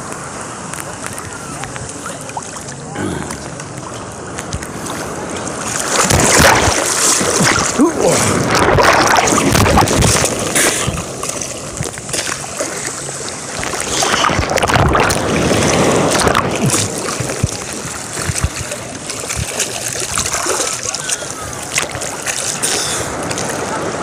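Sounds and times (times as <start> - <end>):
sea water splashing: 0.0 - 24.0.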